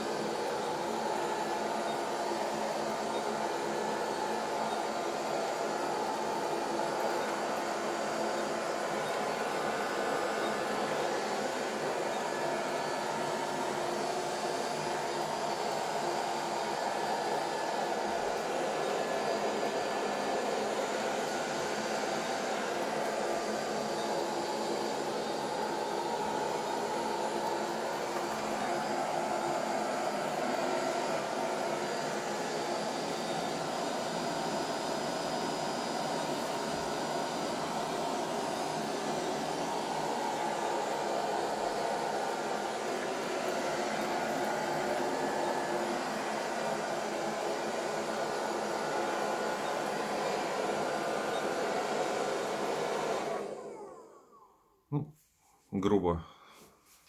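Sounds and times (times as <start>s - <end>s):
robot vacuum cleaner whirring: 0.0s - 54.6s.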